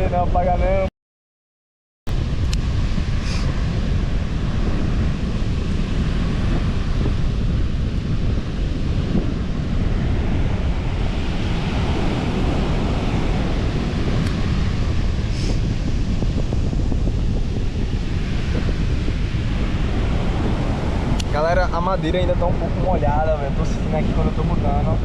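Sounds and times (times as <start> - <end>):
ocean surf: 2.1 - 25.0
wind buffeting microphone: 2.1 - 25.0.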